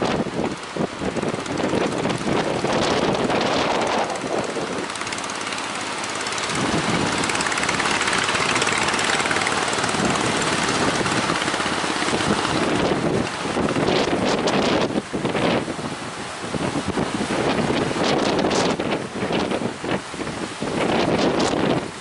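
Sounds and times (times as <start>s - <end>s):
outboard motor running: 0.0s - 22.0s
water wash: 0.0s - 22.0s
wind buffeting microphone: 0.0s - 22.0s.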